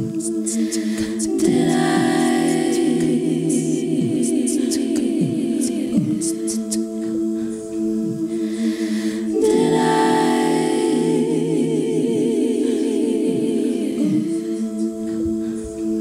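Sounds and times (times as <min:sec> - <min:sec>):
looped vocal harmonies: 0:00.0 - 0:16.0
woman singing with vibrato: 0:00.0 - 0:16.0.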